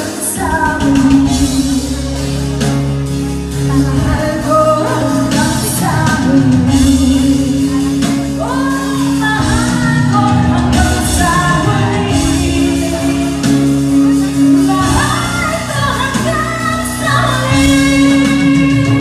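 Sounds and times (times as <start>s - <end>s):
woman singing a pop ballad: 0.0s - 2.9s, 3.5s - 19.0s
instrumental accompaniment: 0.0s - 19.0s.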